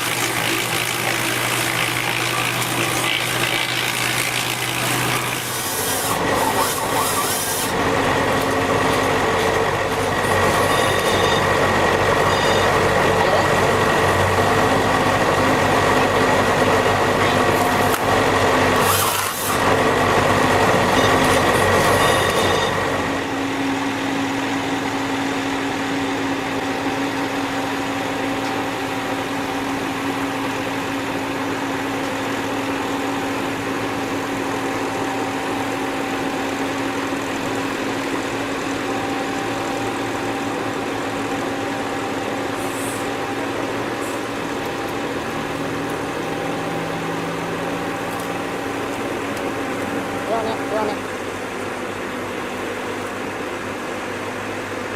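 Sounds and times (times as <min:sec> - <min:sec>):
heavy machine engine running: 0:00.0 - 0:54.9.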